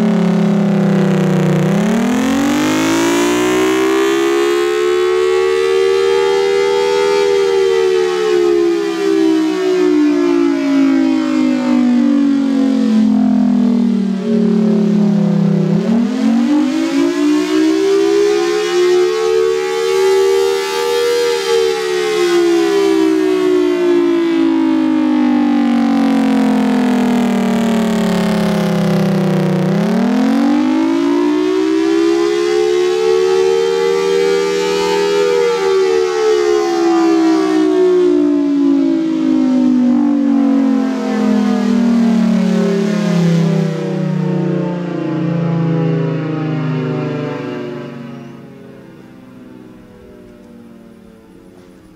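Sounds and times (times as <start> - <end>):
warning siren wailing: 0.0 - 51.9.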